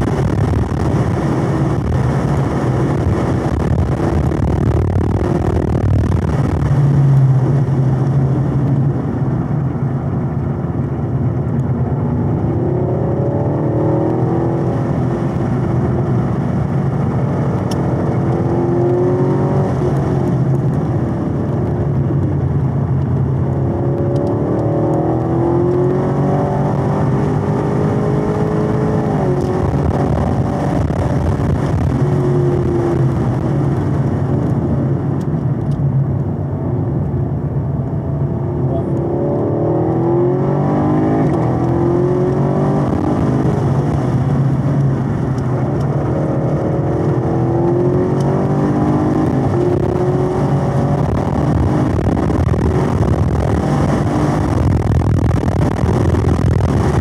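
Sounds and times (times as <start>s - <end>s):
car engine revving: 0.0s - 57.0s
road and tyre noise: 0.0s - 57.0s.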